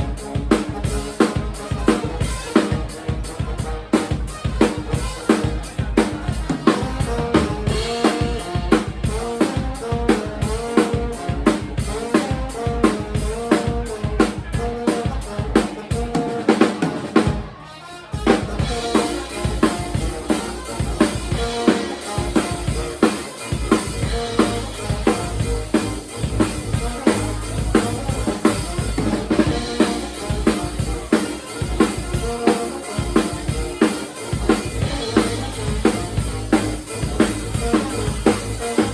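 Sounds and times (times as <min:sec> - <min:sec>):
drum kit beat: 0:00.0 - 0:38.9
live band playing: 0:00.0 - 0:38.9.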